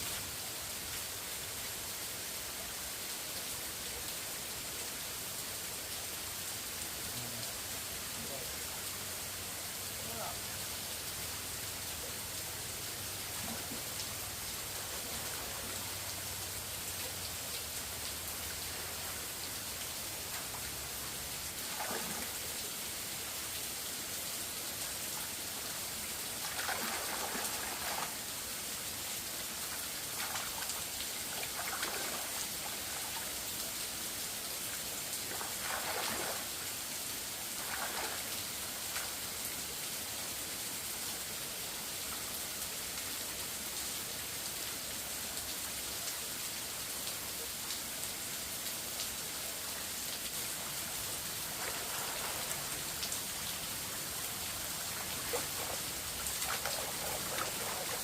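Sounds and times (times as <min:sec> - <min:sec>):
steady rain-like hiss: 0:00.0 - 0:58.0.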